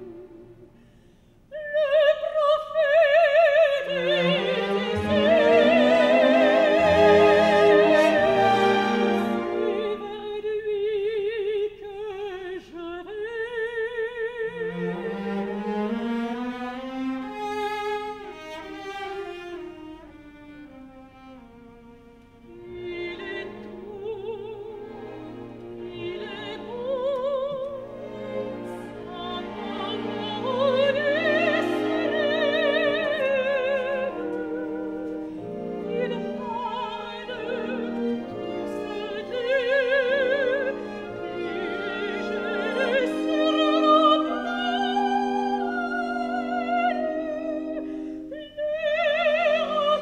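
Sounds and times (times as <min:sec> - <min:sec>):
operatic soprano singing: 0:01.5 - 0:16.5, 0:22.5 - 0:50.0
orchestra playing: 0:03.9 - 0:10.4, 0:14.7 - 0:48.4.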